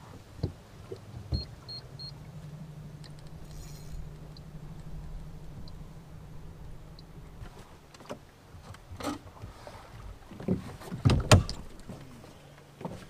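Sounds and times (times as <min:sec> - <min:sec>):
knocks and thumps on fiberglass boat: 0:00.0 - 0:13.0.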